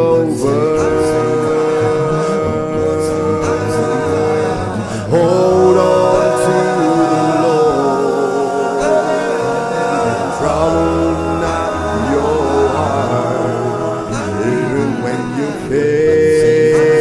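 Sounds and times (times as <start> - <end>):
deep low vocal part: 0.0 - 17.0
male a cappella gospel singing: 0.0 - 17.0.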